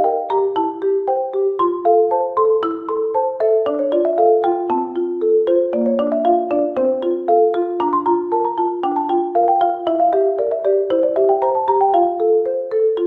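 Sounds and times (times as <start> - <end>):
marimba melody: 0.0 - 13.0.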